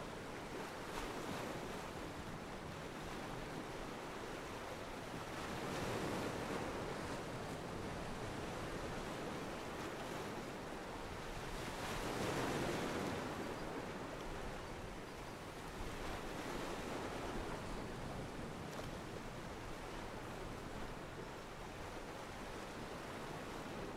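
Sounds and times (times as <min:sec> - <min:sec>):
small waves washing against pier: 0:00.2 - 0:23.9.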